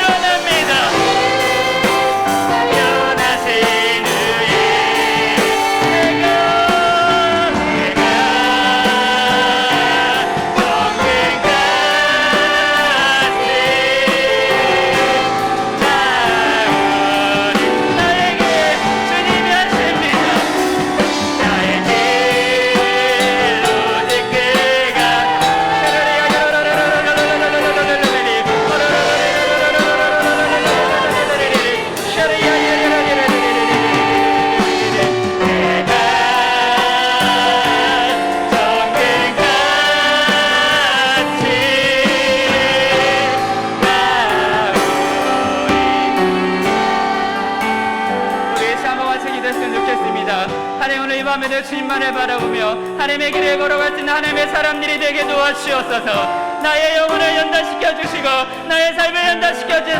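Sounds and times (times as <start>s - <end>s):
drums: 0.0s - 59.9s
people singing worship song: 0.0s - 59.9s
piano: 0.0s - 59.9s.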